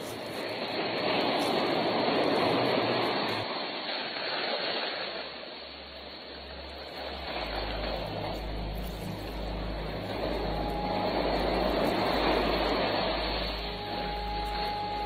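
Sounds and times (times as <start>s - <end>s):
ocean wave rushing: 0.0s - 15.0s.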